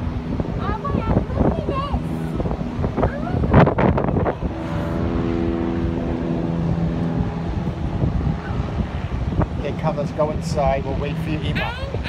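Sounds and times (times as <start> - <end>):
motor droning: 0.0 - 12.0
wind buffeting microphone: 0.0 - 12.0.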